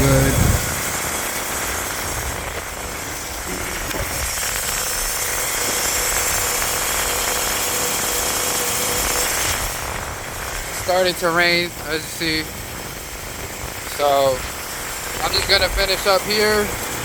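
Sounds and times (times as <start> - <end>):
car engine idling: 0.0 - 17.0
faint steady whine: 0.0 - 17.0.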